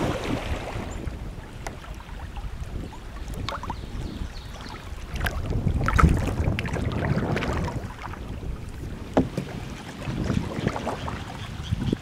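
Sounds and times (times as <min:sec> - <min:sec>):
water lapping against kayak hull: 0:00.0 - 0:12.0
wind rumbling on microphone: 0:00.0 - 0:12.0.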